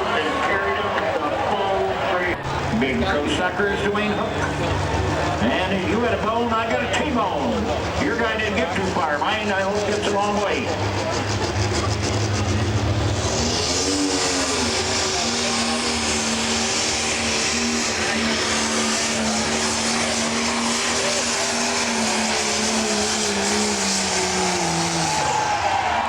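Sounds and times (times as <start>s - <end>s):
tractor diesel engine at full power: 0.0s - 26.0s.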